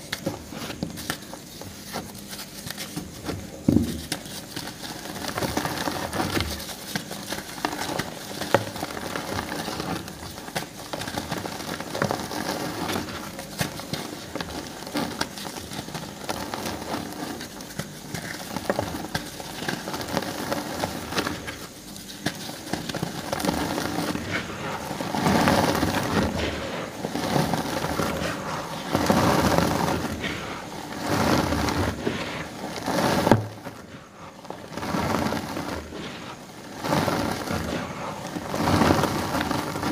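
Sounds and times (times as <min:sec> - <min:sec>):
chalk crunching between hands: 0:00.0 - 0:39.9.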